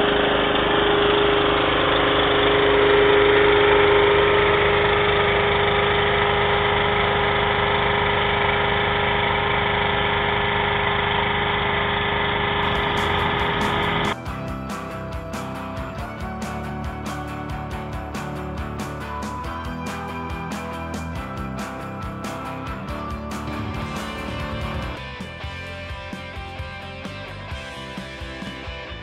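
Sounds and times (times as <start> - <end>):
small generator engine running: 0.0 - 29.0
tractor engine running: 0.0 - 29.0.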